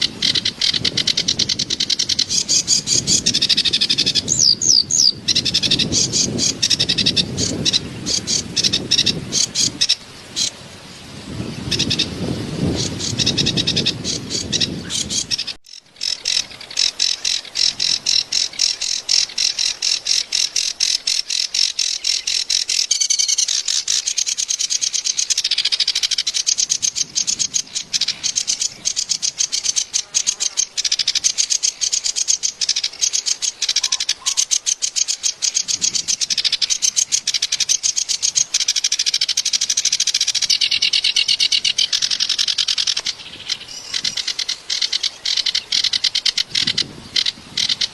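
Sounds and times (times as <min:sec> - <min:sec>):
warbler chattering song: 0:00.0 - 0:10.6, 0:11.4 - 0:47.9.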